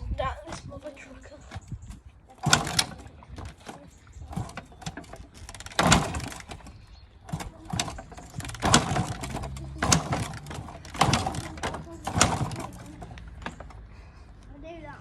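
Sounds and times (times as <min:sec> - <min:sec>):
dirt bike kick-start clatter: 0:01.5 - 0:13.9.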